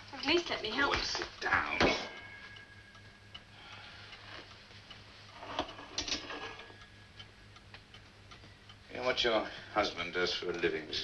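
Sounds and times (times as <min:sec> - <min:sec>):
clock ticking: 0:00.0 - 0:11.0
low steady hum: 0:00.0 - 0:11.0.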